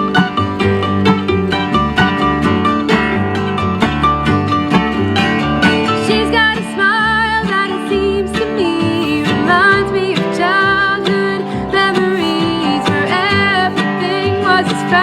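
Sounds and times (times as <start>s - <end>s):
wavering guitar melody: 0.0s - 15.0s.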